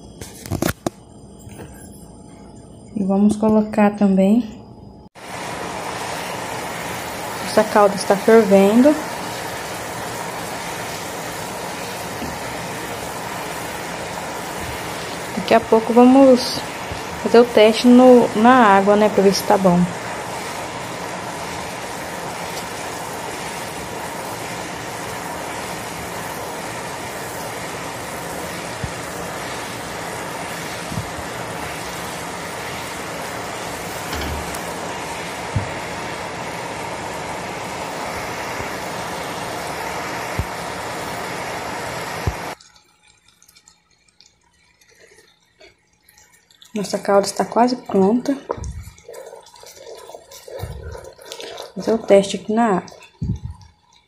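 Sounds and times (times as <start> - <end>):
syrup boiling in a pot: 5.1 - 54.0.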